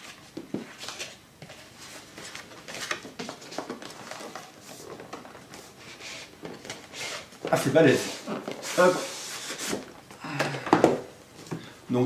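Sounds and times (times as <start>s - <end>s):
cardboard rustling and scraping: 0.0s - 10.0s.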